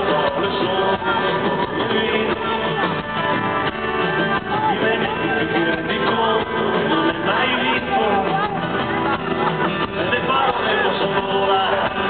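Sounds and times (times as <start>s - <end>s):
man singing into microphone: 0.0s - 3.3s, 4.1s - 9.0s, 9.8s - 12.0s
live band music: 0.0s - 12.0s.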